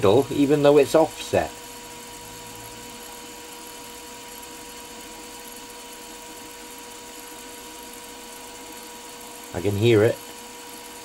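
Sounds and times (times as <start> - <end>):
milling machine whining hum: 0.0 - 11.0.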